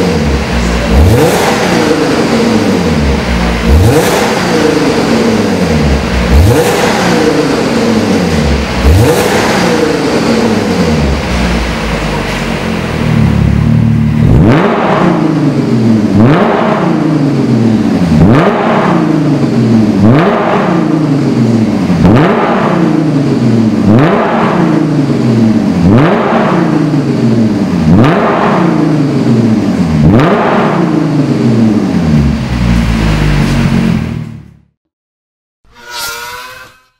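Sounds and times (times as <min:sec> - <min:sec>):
car engine revving: 0:00.0 - 0:34.8.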